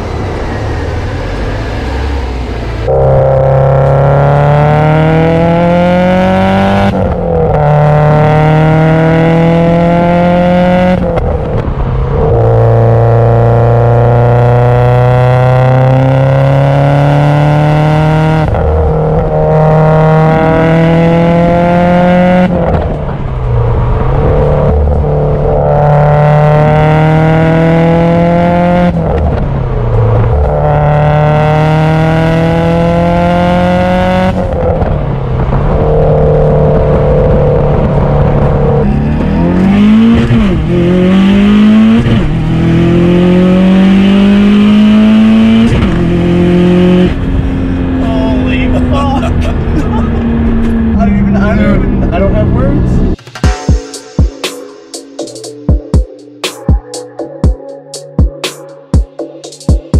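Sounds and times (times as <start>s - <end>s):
car engine revving through gears: 0.0s - 53.3s.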